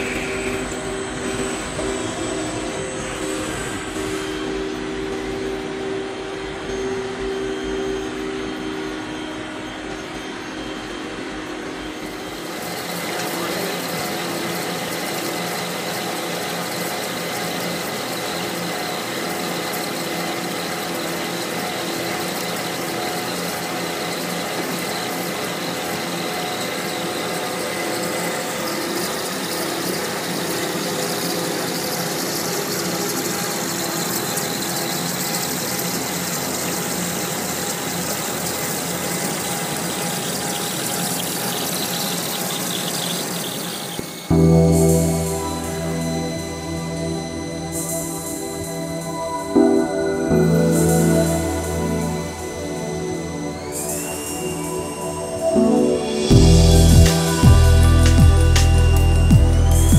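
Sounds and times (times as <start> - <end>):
industrial machine running: 0.0 - 59.9.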